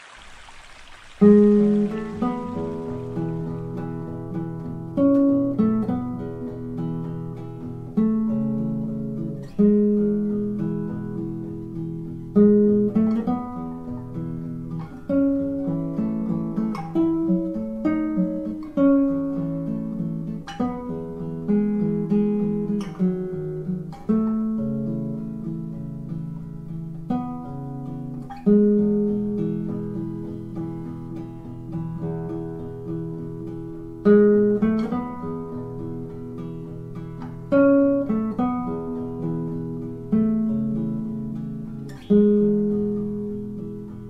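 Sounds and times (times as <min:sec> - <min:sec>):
classical guitar fingerstyle: 0:01.1 - 0:44.0.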